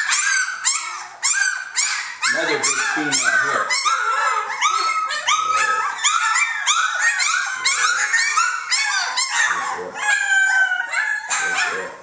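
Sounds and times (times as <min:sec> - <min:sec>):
puppies whining and yelping: 0:00.0 - 0:12.0.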